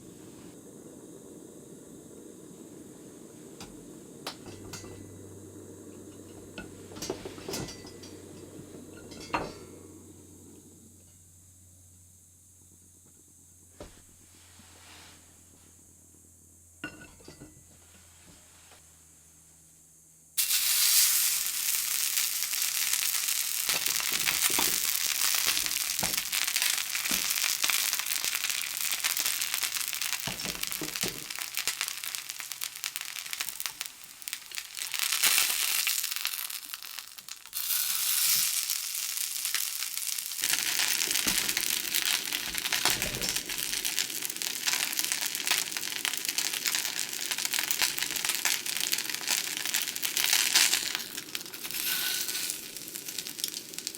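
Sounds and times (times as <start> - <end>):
steady crackling hiss: 0.0 - 53.9.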